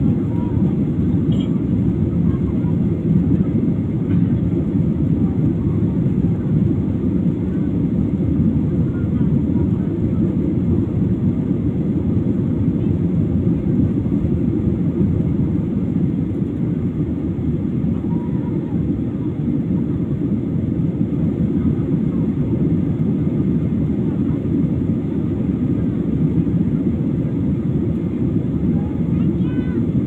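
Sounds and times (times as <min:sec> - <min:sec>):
airliner cabin engine rumble: 0:00.0 - 0:30.0.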